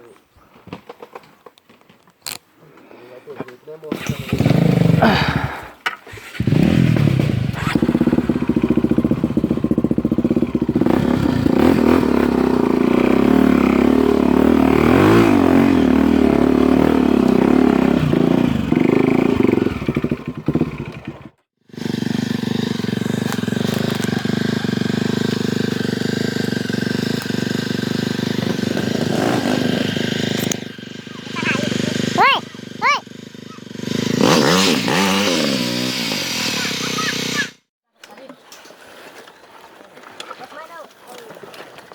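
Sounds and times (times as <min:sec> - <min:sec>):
dirt bike engine revving: 0:03.9 - 0:37.7.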